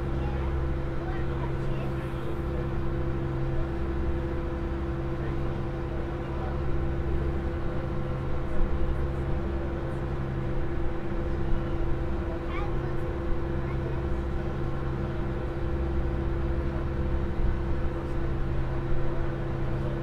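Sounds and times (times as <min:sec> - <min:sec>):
ferry engines droning: 0:00.0 - 0:20.0.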